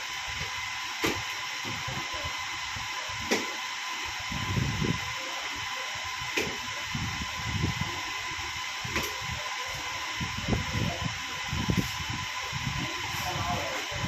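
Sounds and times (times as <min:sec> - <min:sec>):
server cooling fans running: 0:00.0 - 0:14.0.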